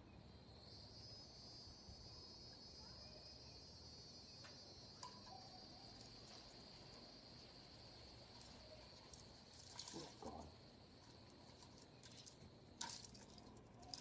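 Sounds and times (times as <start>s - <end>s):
insect chorus trilling: 0.0s - 14.0s.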